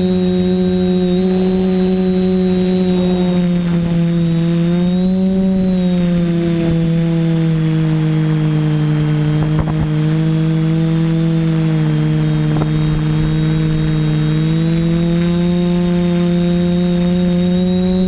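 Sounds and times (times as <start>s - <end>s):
quadcopter motors humming: 0.0s - 18.0s.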